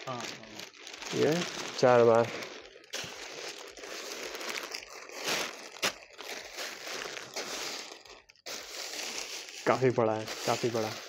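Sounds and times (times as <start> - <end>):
newspaper rustling and crinkling: 0.0 - 11.0
sharp paper crackle: 0.0 - 11.0.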